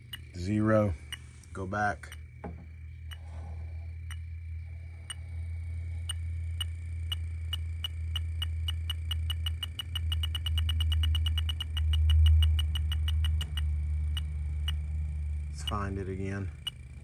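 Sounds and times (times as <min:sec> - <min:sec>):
leak detector ticking: 0:00.0 - 0:17.0
steady low hum: 0:00.0 - 0:17.0.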